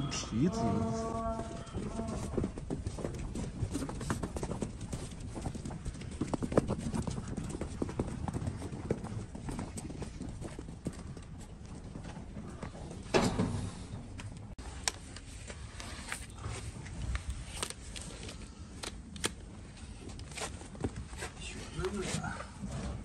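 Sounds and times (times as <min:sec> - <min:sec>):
hooves stepping on dry dirt: 0:00.5 - 0:22.1.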